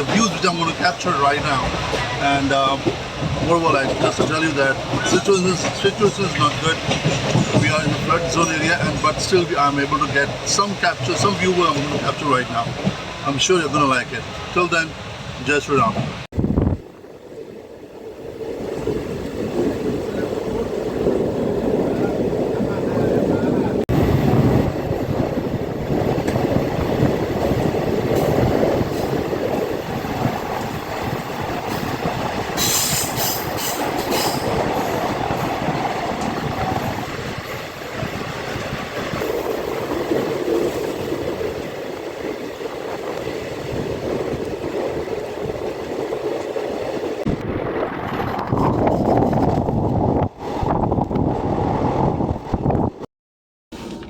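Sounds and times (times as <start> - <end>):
train carriage rumble: 0.0 - 53.0.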